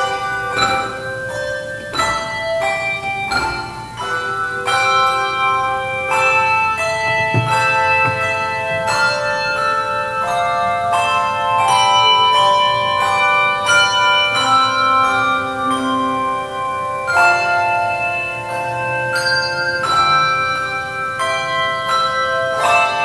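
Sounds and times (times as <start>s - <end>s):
handbell choir playing chords: 0.0s - 23.0s.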